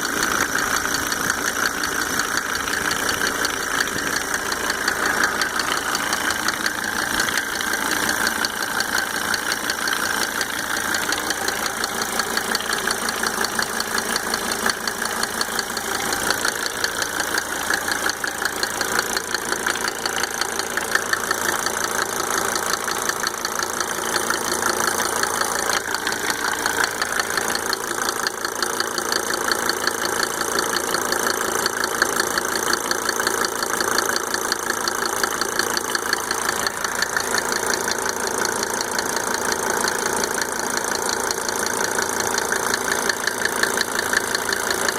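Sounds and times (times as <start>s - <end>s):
diesel engine idling: 0.0s - 44.9s
engine ticking: 0.0s - 44.9s.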